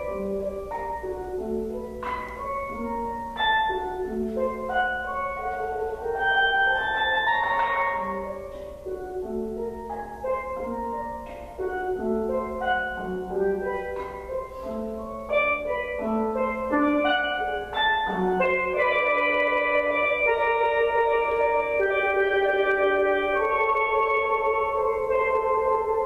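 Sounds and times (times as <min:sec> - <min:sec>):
steel pan played with mallets: 0:00.0 - 0:26.0.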